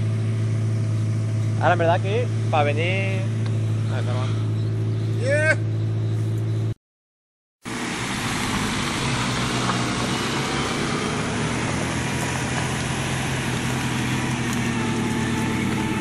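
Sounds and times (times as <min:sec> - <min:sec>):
engine running at low revs: 0:00.0 - 0:06.8, 0:07.7 - 0:16.0.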